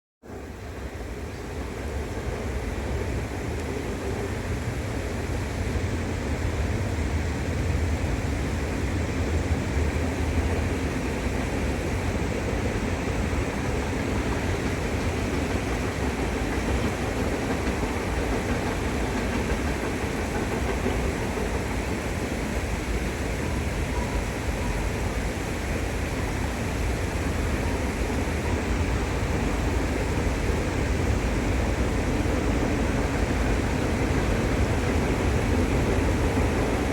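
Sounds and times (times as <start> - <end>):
train wheels rumbling on rails: 0.2 - 36.9.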